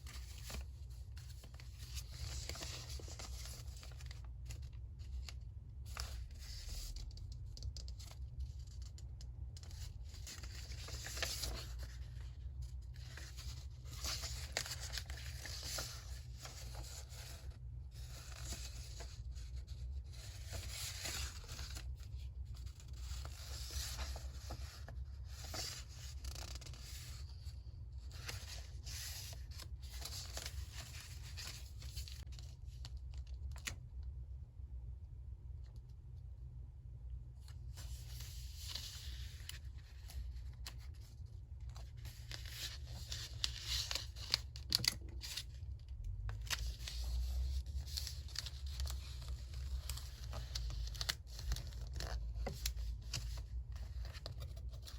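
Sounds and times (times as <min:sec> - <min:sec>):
low steady hum: 0:00.0 - 0:54.9.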